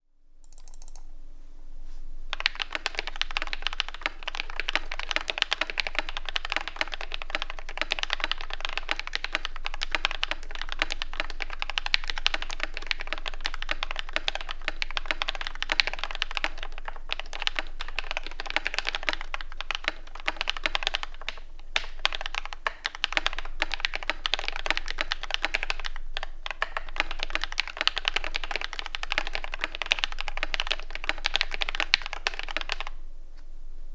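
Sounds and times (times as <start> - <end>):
fast mechanical keyboard typing: 0.4 - 1.0, 2.3 - 33.0.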